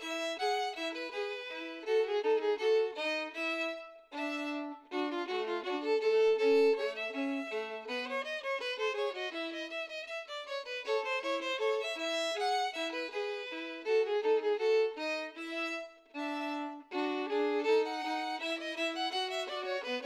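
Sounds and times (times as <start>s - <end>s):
violin melody: 0.0s - 20.0s.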